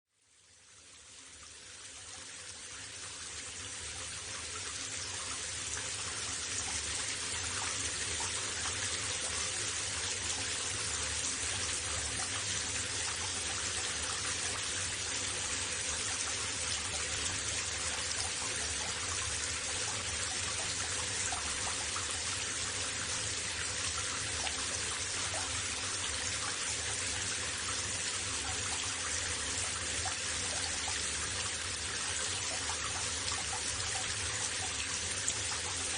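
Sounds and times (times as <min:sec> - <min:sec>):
running water hiss: 0:00.2 - 0:35.9.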